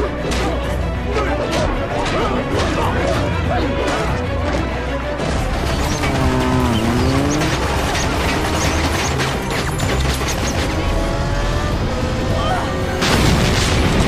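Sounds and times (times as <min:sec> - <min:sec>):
action score music: 0:00.0 - 0:14.0.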